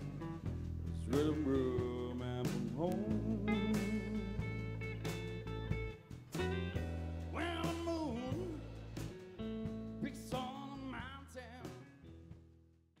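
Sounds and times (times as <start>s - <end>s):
blues band with guitar: 0.0s - 12.6s.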